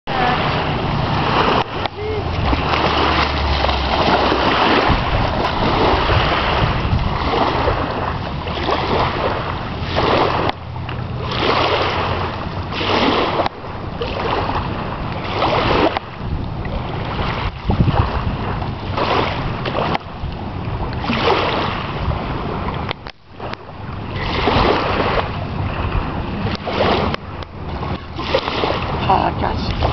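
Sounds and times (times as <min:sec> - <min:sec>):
small waves lapping: 0:00.1 - 0:29.9
wind gusting on microphone: 0:00.1 - 0:29.9.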